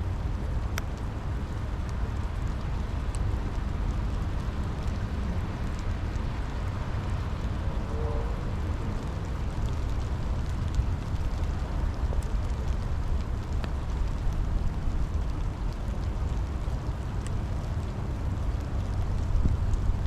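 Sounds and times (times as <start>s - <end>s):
deep low rumble: 0.0s - 20.0s
faint drip ticks: 0.0s - 20.0s
steady rain: 0.0s - 20.0s.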